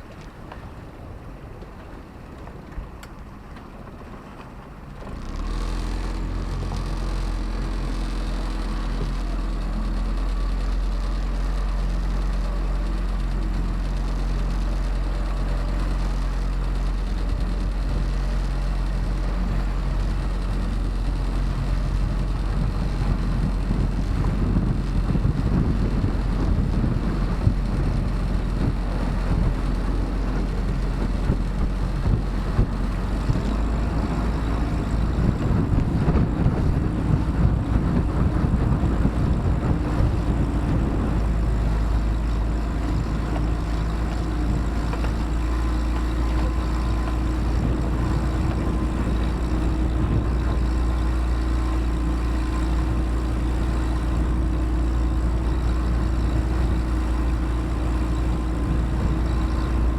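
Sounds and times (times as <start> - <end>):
motorboat engine drone: 0.0 - 59.9
rough low rumble: 5.2 - 59.9.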